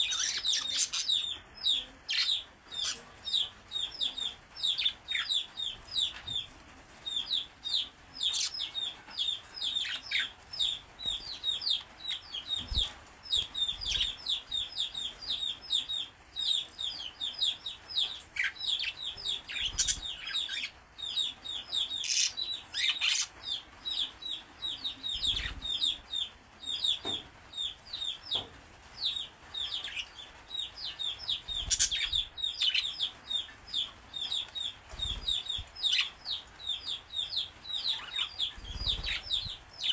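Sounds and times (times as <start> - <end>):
budgerigars chirping: 0.0 - 6.1, 7.2 - 27.0, 29.0 - 39.9.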